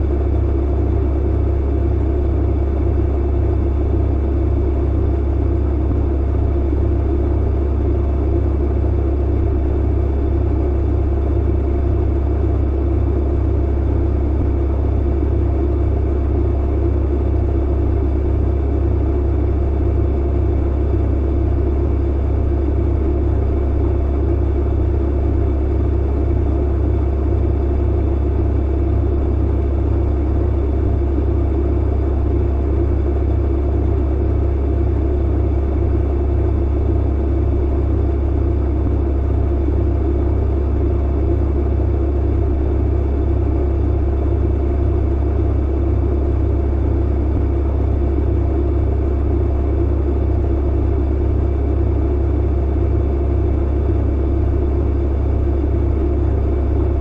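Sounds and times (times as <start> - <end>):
clothes dryer humming and rumbling: 0.0 - 57.0.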